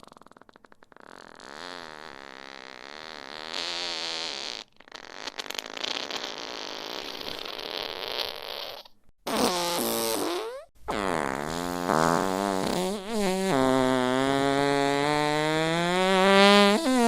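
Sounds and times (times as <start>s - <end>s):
fart sound effects: 0.0s - 17.0s.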